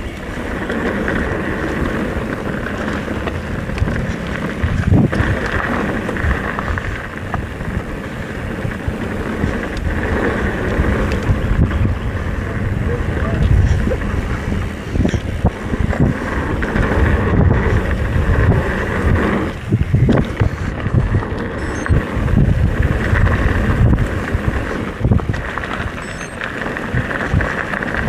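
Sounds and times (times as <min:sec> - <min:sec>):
mountain bike rattling on dirt trail: 0:00.0 - 0:28.0
wind buffeting microphone: 0:00.0 - 0:28.0.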